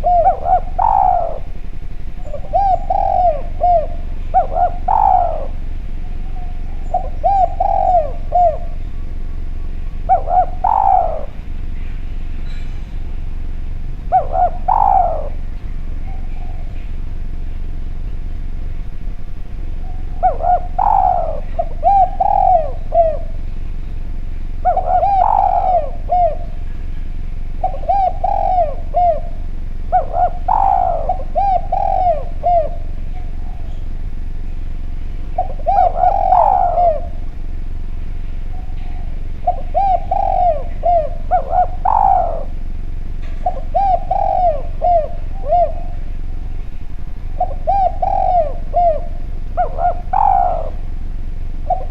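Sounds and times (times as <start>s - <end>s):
dove cooing: 0.0s - 51.9s
low hum: 0.0s - 51.9s.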